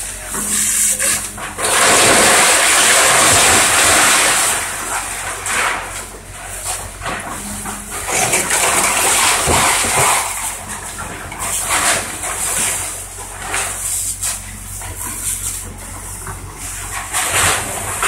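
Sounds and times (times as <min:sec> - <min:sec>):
low engine hum: 0:00.0 - 0:18.0
timber splintering: 0:00.4 - 0:15.4
debris crashing down: 0:00.4 - 0:15.7.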